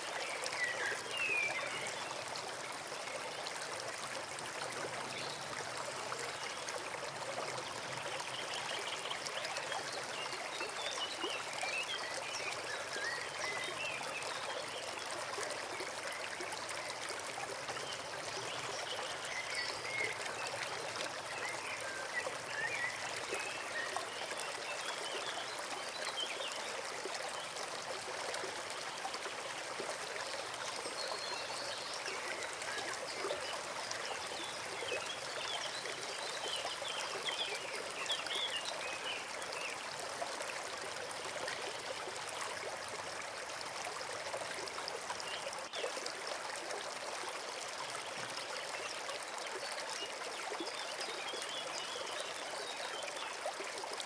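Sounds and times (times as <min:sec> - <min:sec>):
brook trickling: 0:00.0 - 0:54.0.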